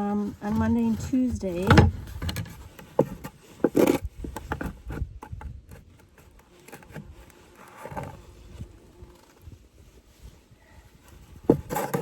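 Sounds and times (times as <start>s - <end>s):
wood scraping: 0.0s - 12.0s.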